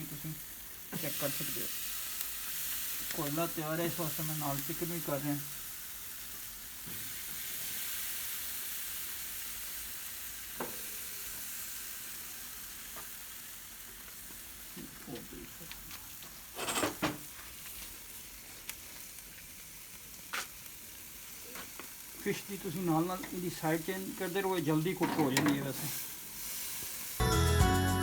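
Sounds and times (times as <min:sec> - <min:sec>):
food sizzling on charcoal grill: 0:00.0 - 0:28.0.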